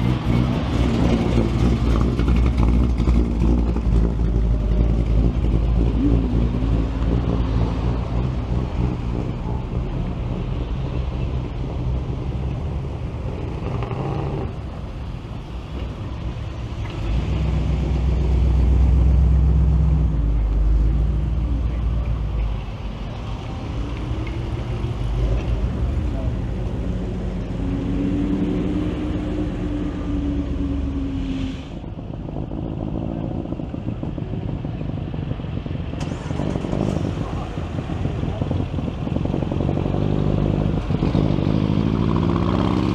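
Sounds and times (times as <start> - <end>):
car engines running at low speed: 0.0 - 42.9
car rolling by: 0.0 - 42.9.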